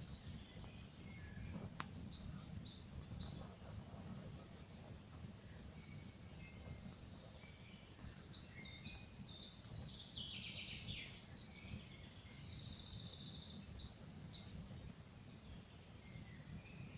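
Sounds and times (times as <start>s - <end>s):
low rumbling background noise: 0.0s - 16.9s
songbird singing: 0.0s - 16.9s.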